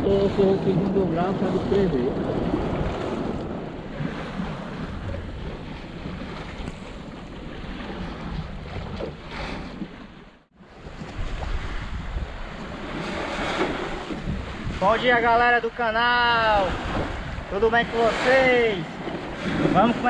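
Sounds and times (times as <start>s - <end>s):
sea water and waves rushing: 0.0s - 20.0s
wind buffeting microphone: 0.0s - 20.0s.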